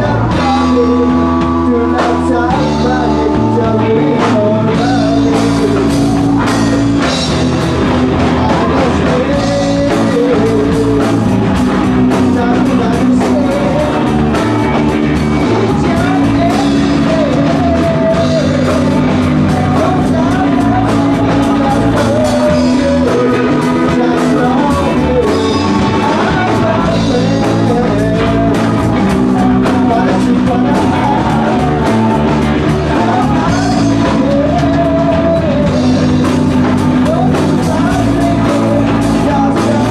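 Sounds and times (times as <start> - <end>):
bass guitar: 0.0 - 39.9
distorted electric guitars: 0.0 - 39.9
drum kit: 0.0 - 39.9
male singer singing: 0.0 - 39.9.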